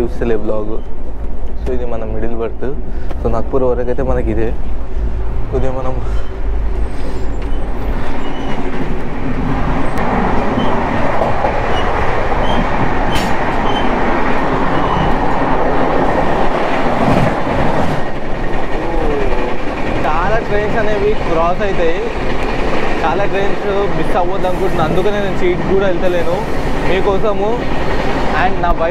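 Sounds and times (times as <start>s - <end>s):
train wheel and track noise: 0.0s - 28.9s.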